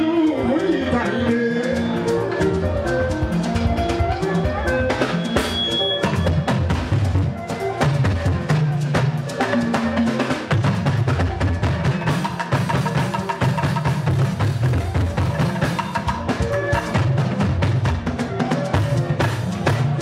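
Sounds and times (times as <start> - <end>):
fast drums and percussion: 0.0 - 20.0
heavy bass drum beat: 1.5 - 20.0.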